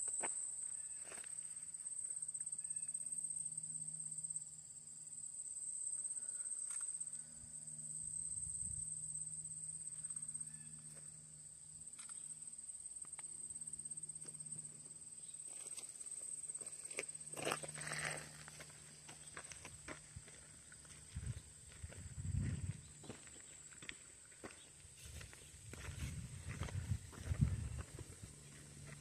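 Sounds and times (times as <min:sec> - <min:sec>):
insects trilling: 0:00.0 - 0:29.0
faint low hum: 0:00.8 - 0:29.0.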